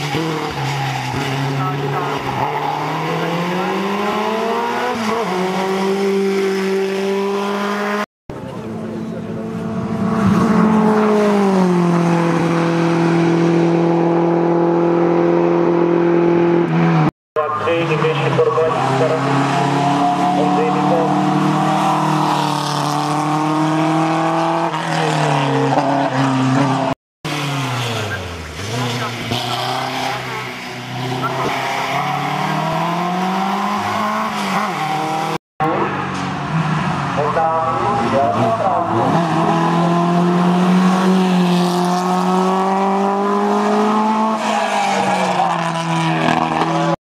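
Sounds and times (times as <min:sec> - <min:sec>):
racing car engine at high revs: 0:00.0 - 0:47.0.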